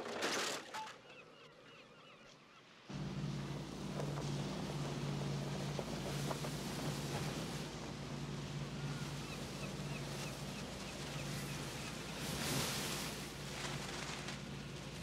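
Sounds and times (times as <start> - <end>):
churned water rushing: 2.9 - 15.0
tugboat engine drone: 2.9 - 15.0.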